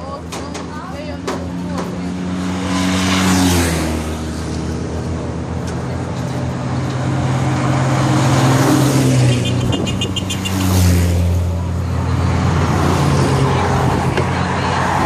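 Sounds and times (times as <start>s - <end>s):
bus engine drone: 0.0s - 15.0s
motorcycle passing: 0.1s - 15.0s
jeep passing: 0.9s - 15.0s.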